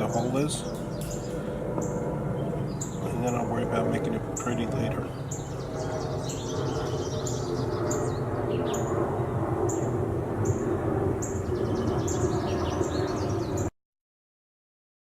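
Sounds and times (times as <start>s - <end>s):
low hum: 0.0s - 13.7s
small birds chirping: 0.0s - 13.7s.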